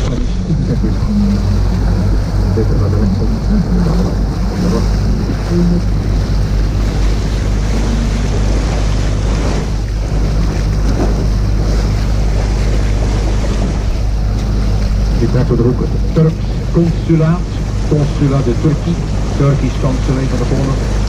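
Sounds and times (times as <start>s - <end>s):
boat motor humming: 0.0s - 21.0s
water noise: 0.0s - 21.0s
wind buffeting microphone: 0.0s - 21.0s.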